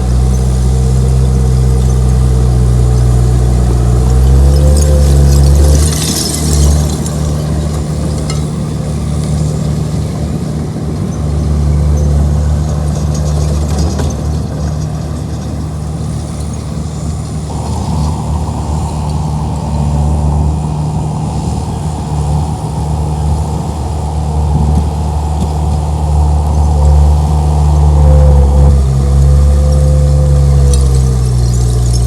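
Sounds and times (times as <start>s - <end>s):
thin squealing whine: 0.0s - 13.8s, 15.7s - 32.0s
bulldozer diesel engine running: 0.0s - 32.0s.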